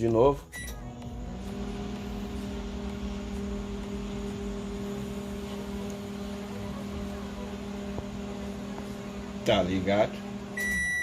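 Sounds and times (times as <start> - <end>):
microwave oven humming: 0.4 - 11.0.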